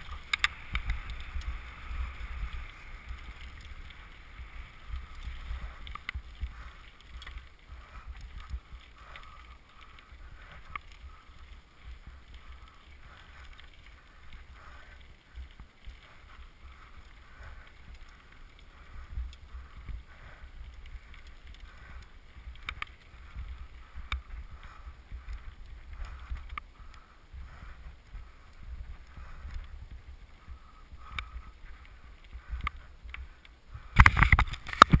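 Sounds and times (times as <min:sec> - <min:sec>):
bike rattling over roots: 0:00.0 - 0:35.0
mountain bike rumbling on dirt trail: 0:00.0 - 0:35.0.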